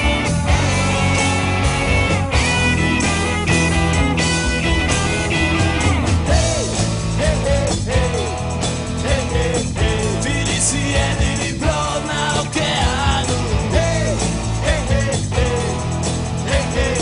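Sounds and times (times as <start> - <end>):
rock band playing: 0.0 - 17.0
swooping lead guitar notes: 0.0 - 17.0.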